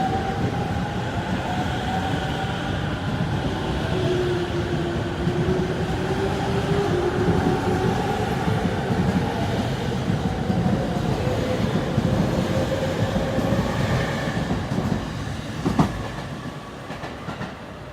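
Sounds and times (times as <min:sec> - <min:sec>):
train running and rail-joint noise: 0:00.0 - 0:17.9.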